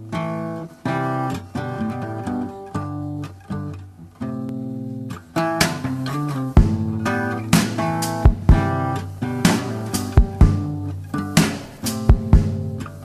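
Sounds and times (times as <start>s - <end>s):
guitar plucking notes and chords: 0.0s - 13.0s.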